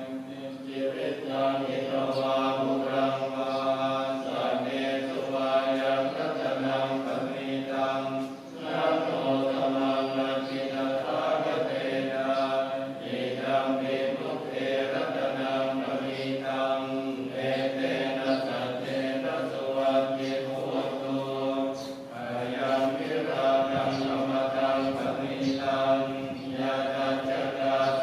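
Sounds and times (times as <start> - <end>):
voices chanting together: 0.0 - 28.0.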